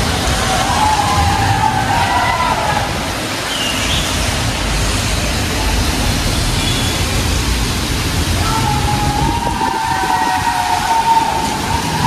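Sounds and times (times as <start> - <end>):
road traffic rumble in tunnel: 0.0 - 12.0.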